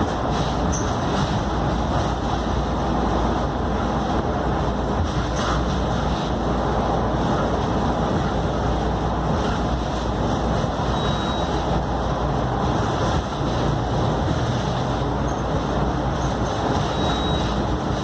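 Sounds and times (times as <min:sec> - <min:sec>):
bus engine and road noise rumble: 0:00.0 - 0:18.0.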